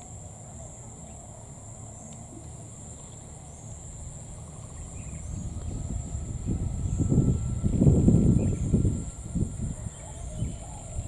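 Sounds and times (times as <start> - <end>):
insect chorus trilling: 0.0 - 11.0
low rumble: 0.0 - 11.0.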